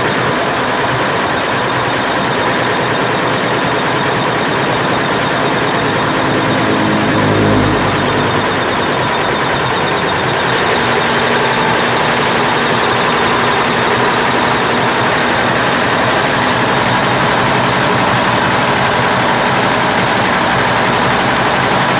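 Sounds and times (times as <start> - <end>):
embroidery machine stitching: 0.0 - 21.9.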